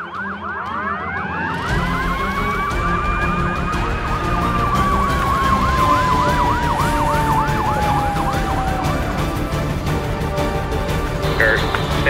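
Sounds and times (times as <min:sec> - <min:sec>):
siren fast yelp: 0:00.0 - 0:10.0
siren long gliding tone: 0:00.0 - 0:12.0.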